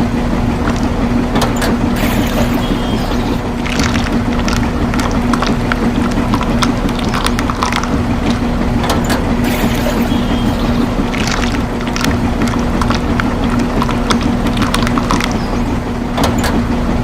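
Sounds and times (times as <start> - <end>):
rough crackling noise: 0.0 - 16.2
small motor humming: 0.6 - 16.5.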